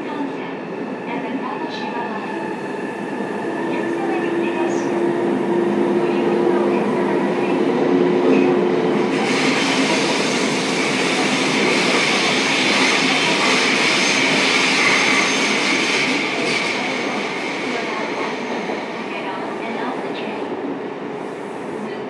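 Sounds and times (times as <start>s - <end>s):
train wheel and motor noise: 0.0s - 20.4s.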